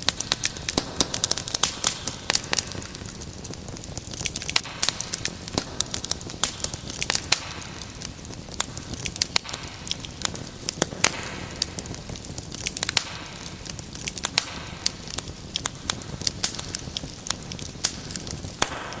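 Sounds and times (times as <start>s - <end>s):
sharp fire pops: 0.0s - 19.0s
wood fire crackling: 0.0s - 19.0s.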